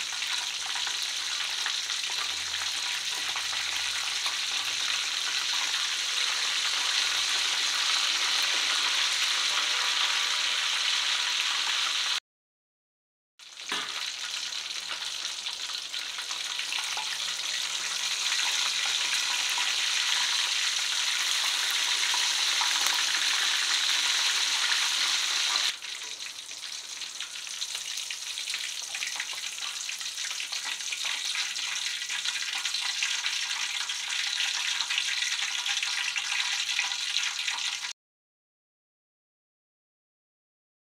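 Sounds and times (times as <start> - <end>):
hot oil sizzling: 0.0 - 12.2, 13.4 - 38.0.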